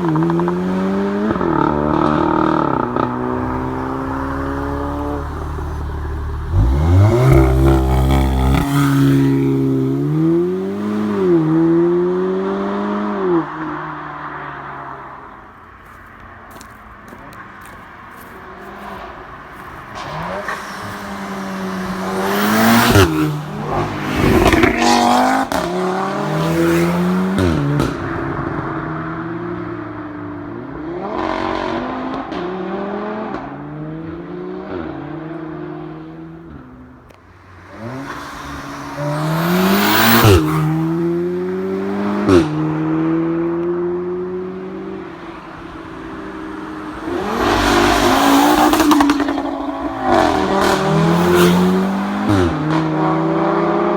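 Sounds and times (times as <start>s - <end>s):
car engine accelerating hard: 0.0s - 14.2s, 17.6s - 53.9s.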